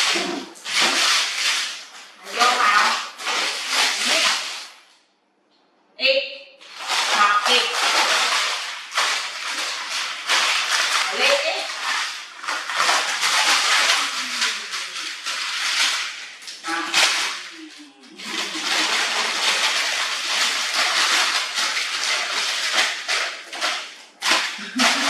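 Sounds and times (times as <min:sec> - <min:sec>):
water running and splashing: 0:00.0 - 0:04.9, 0:06.6 - 0:25.0.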